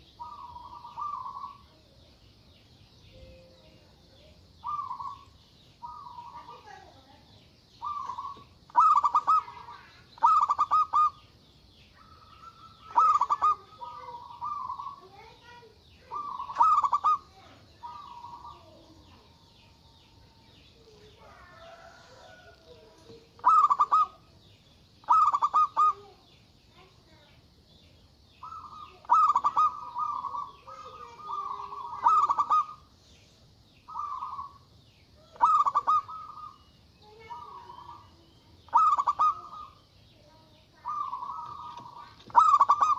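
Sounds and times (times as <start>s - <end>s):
dove cooing: 0.0s - 1.8s, 3.8s - 6.8s, 7.8s - 11.2s, 12.0s - 24.3s, 25.0s - 26.2s, 28.4s - 32.9s, 33.9s - 42.9s.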